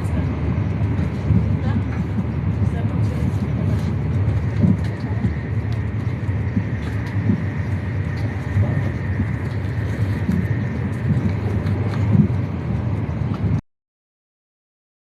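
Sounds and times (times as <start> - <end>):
train interior rumble: 0.0 - 13.6.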